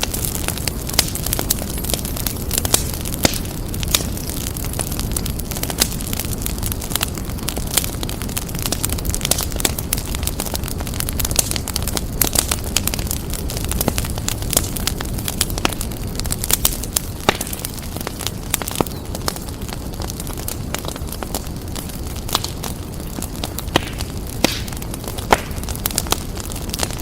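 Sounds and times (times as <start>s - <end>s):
fireplace fire crackling: 0.0s - 27.0s.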